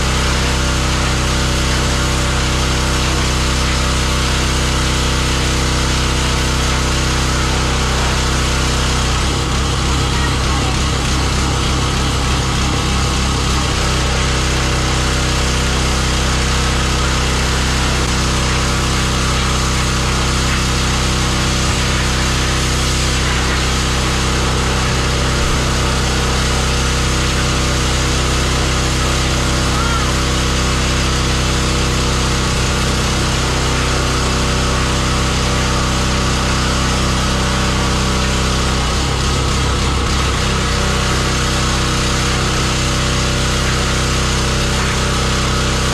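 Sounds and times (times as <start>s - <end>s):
high-pressure water spray hissing: 0.0s - 45.9s
pressure washer engine drone: 0.0s - 45.9s.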